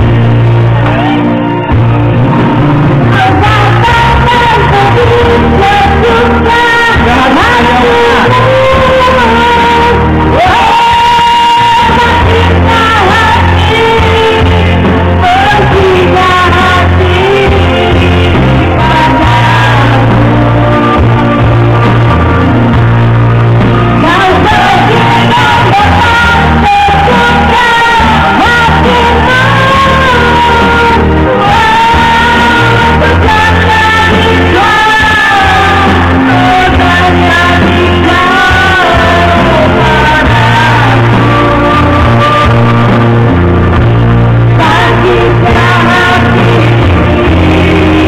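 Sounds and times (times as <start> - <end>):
amplified backing music: 0.0 - 48.0
person singing into microphone: 0.0 - 48.0.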